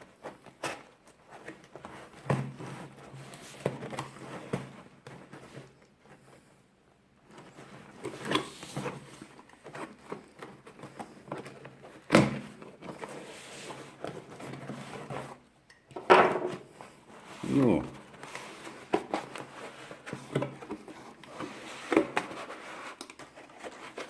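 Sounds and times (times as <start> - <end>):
cardboard parcel rustling: 0.0 - 15.6, 16.4 - 24.0.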